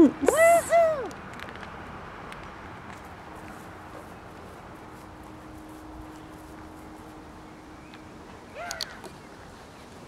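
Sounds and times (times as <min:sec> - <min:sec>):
low outdoor background noise: 0:00.0 - 0:10.0.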